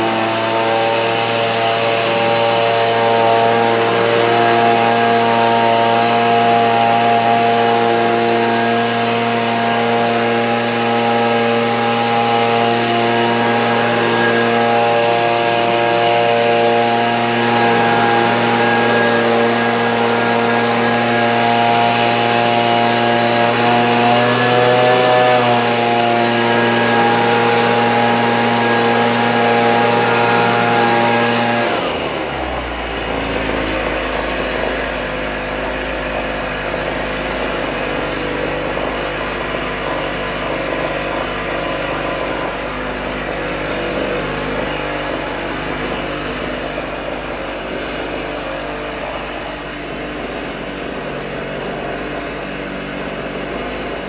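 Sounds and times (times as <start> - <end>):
leaf blower engine running: 0.0 - 54.0.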